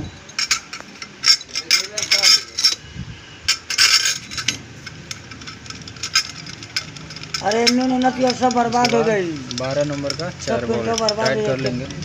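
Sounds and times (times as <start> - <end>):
metal tools clinking and rattling: 0.0 - 12.0.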